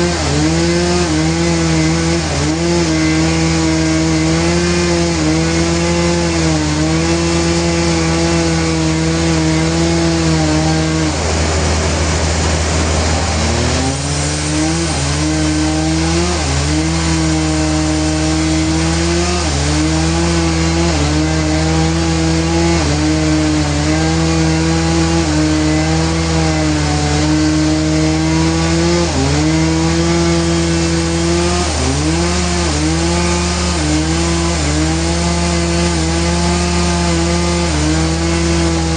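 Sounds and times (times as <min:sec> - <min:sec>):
sawmill saw cutting log: 0:00.0 - 0:38.9.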